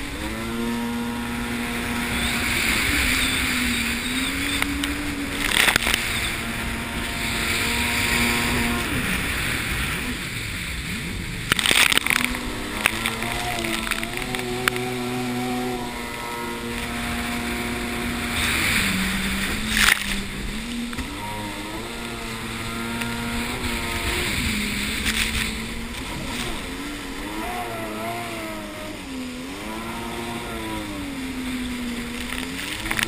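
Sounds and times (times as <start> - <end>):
jet ski engine running: 0.0 - 33.0
water rushing and spraying: 0.0 - 33.0.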